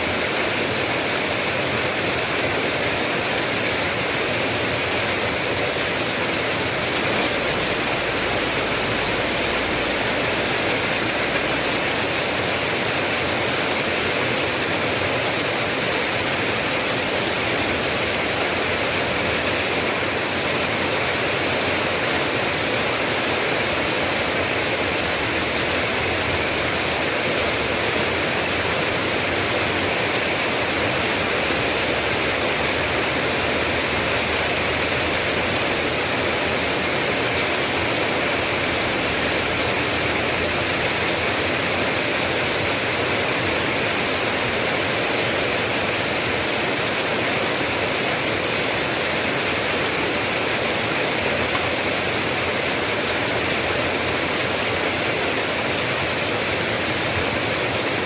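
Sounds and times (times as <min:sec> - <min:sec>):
dense rain hissing: 0:00.0 - 0:58.0.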